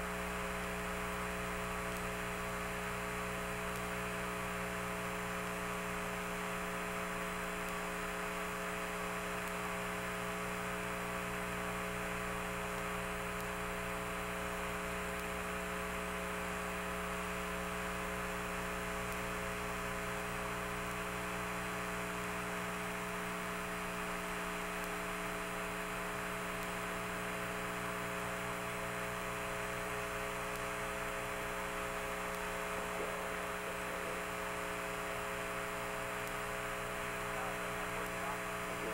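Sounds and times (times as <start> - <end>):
electrical hum and hiss: 0.0 - 38.9.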